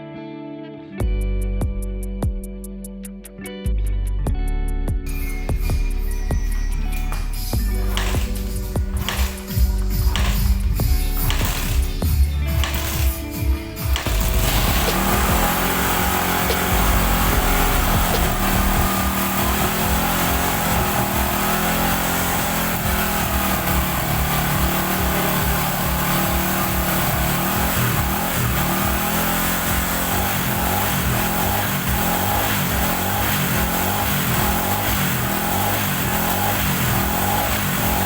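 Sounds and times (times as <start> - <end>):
motorcycle engine running: 5.1 - 38.0.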